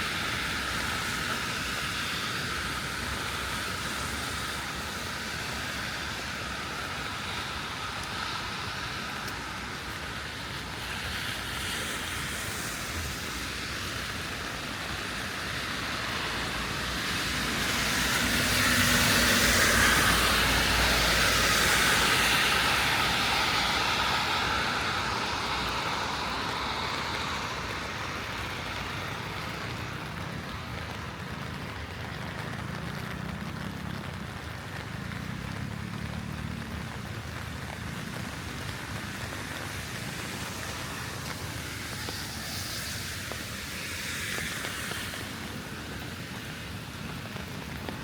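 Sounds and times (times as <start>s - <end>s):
car tyres hissing on wet street: 0.0s - 48.0s
heavy rain falling: 0.0s - 48.0s.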